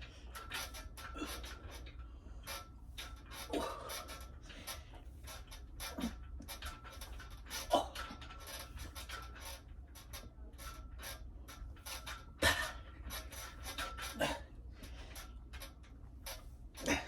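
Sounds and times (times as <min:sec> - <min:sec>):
rustling and scraping: 0:00.0 - 0:17.0.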